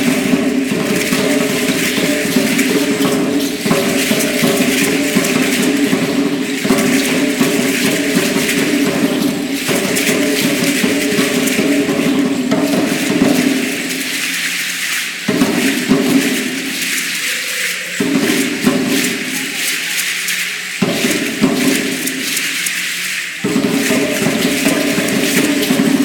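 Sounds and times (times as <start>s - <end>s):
shaking seed-pod rattles: 0.0s - 26.0s.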